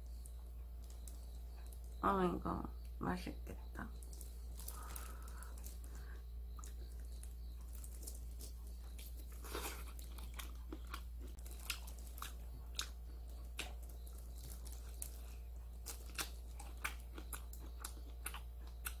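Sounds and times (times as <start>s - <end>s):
steady low hum: 0.0s - 19.0s
person chewing prawns: 0.2s - 2.0s, 3.9s - 19.0s.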